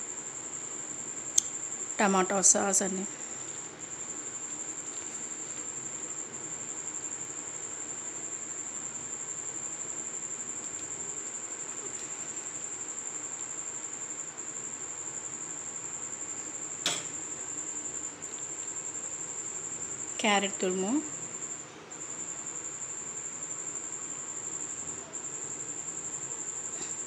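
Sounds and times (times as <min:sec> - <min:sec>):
cricket chirping trill: 0:00.0 - 0:27.0.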